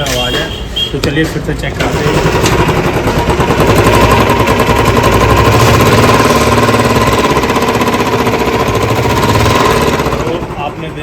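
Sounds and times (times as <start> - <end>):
motorcycle engine running: 1.8 - 11.0.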